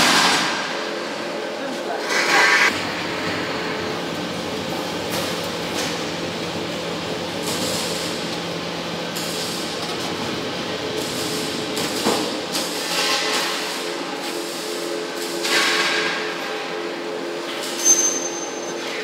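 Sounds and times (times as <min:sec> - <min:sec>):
press mechanical hum: 0:00.0 - 0:19.0.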